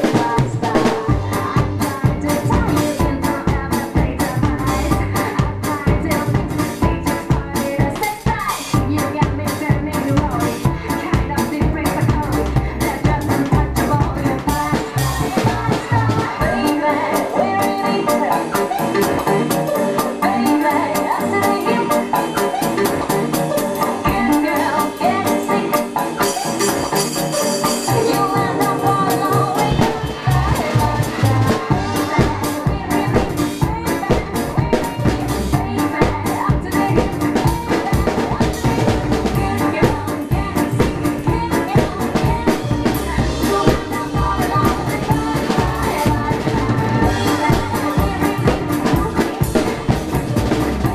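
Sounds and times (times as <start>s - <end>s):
drum kit playing: 0.0s - 50.9s
electro swing backing track: 0.0s - 50.9s.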